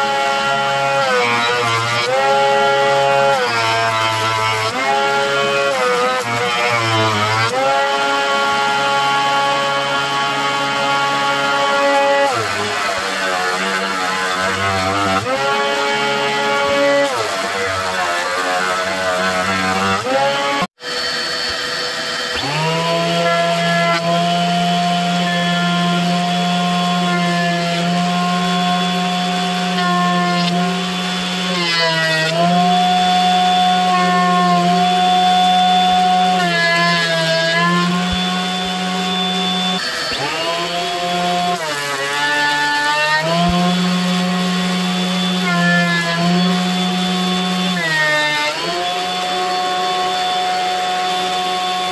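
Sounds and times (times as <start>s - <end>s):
thickness planer motor whine: 0.0s - 51.9s
jointer running: 0.1s - 51.9s.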